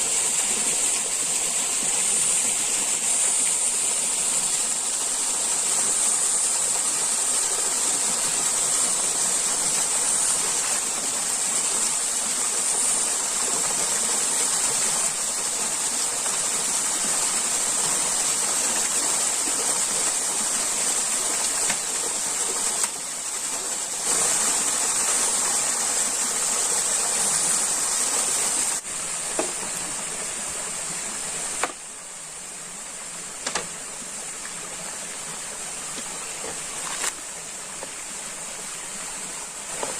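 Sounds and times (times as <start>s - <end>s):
high-pitched hiss: 0.0s - 39.9s
stream water rushing: 0.0s - 39.9s.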